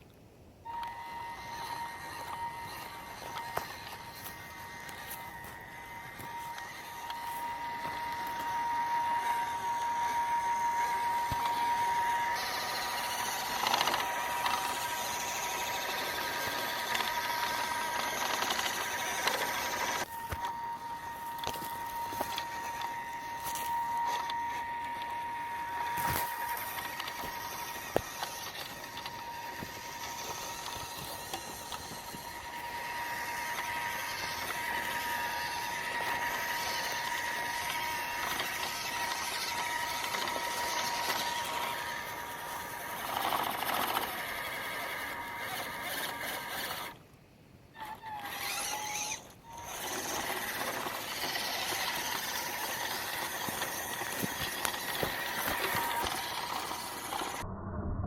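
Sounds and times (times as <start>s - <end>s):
small electric motor whining: 0.6s - 57.5s.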